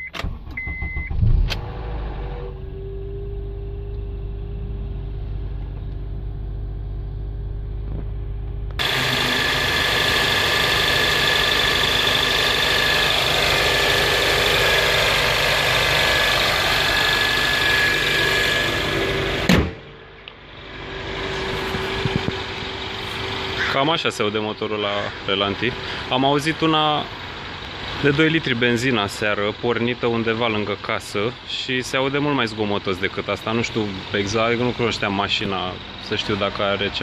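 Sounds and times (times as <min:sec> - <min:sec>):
high engine whine: 0:00.0 - 0:37.0
car engine idling: 0:01.7 - 0:37.0.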